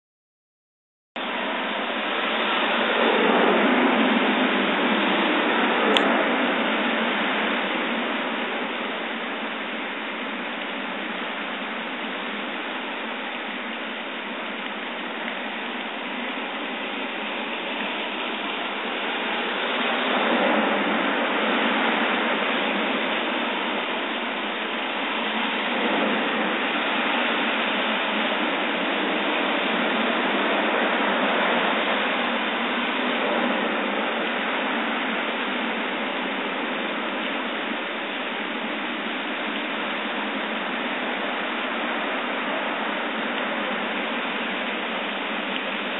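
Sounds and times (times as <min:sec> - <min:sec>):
cars driving through water: 0:01.2 - 0:45.9
heavy rain pouring: 0:01.2 - 0:45.9.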